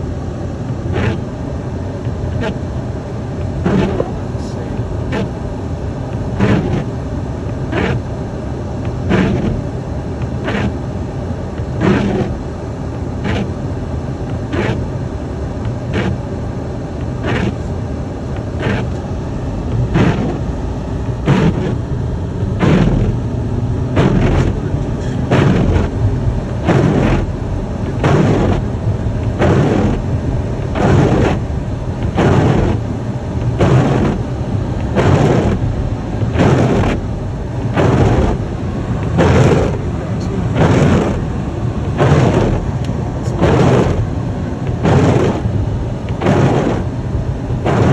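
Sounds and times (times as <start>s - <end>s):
engine and road noise rumble: 0.0s - 47.9s
windshield wipers sweeping: 0.6s - 1.3s, 2.0s - 2.6s, 3.4s - 5.4s, 6.0s - 8.1s, 8.8s - 10.8s, 11.6s - 12.4s, 13.2s - 13.6s, 14.3s - 14.9s, 15.6s - 16.3s, 17.0s - 17.7s, 18.3s - 47.9s.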